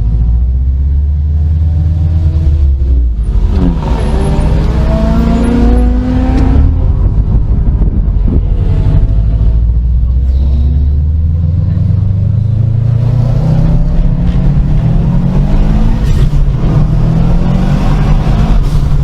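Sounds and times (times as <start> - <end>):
car engine revving: 0.0 - 19.0
deep low rumble: 0.0 - 19.0.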